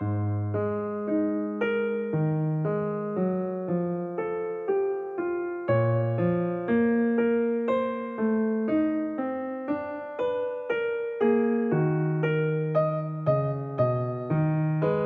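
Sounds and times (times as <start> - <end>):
slow gentle piano notes: 0.0 - 15.0.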